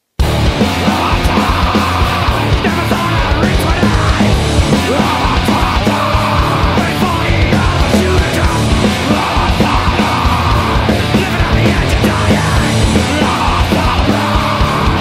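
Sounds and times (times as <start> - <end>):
fast drum beat: 0.2 - 15.0
loud punk rock song: 0.2 - 15.0.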